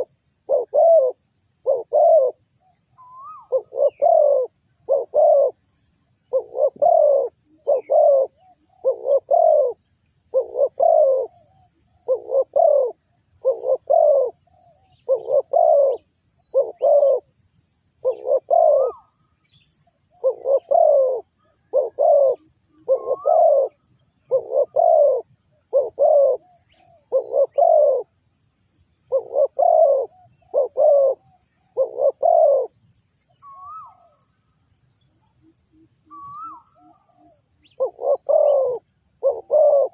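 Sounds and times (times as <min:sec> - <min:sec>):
dove cooing: 0:00.0 - 0:17.3, 0:18.0 - 0:19.2, 0:20.1 - 0:28.1, 0:29.0 - 0:34.2, 0:36.1 - 0:39.9
small birds chirping: 0:00.0 - 0:39.9.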